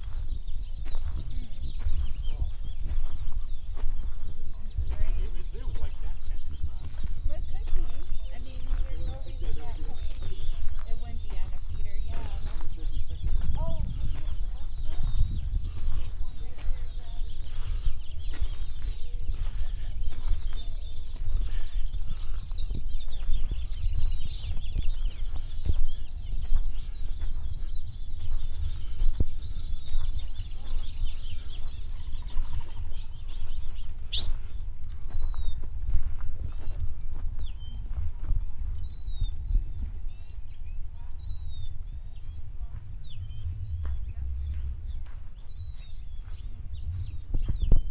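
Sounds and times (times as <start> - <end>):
low rumble on microphone: 0.0 - 47.9
songbirds chirping: 0.0 - 47.9.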